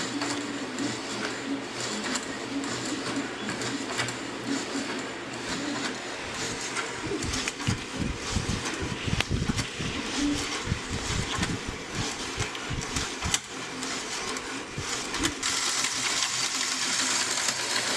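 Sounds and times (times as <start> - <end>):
band saw whirring: 0.0 - 17.9.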